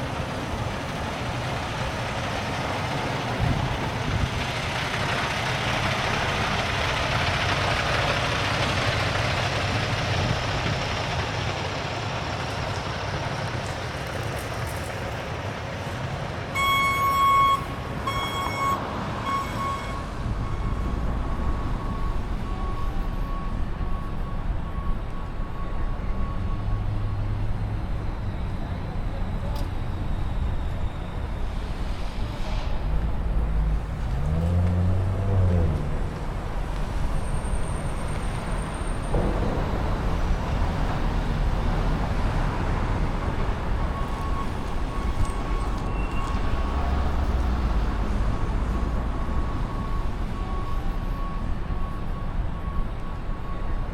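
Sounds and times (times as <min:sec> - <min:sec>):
rumble of passing cars: 0:00.0 - 0:53.9.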